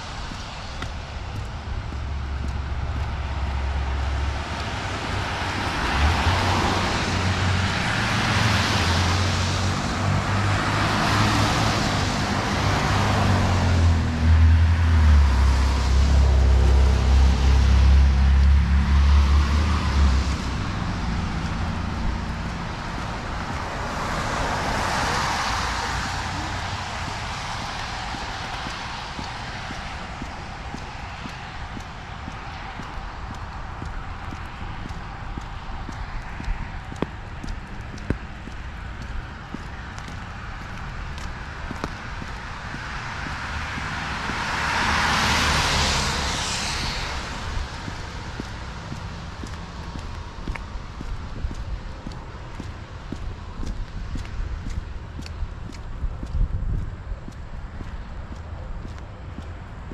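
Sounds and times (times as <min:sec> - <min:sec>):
cars passing on wet road: 0:00.0 - 0:59.9.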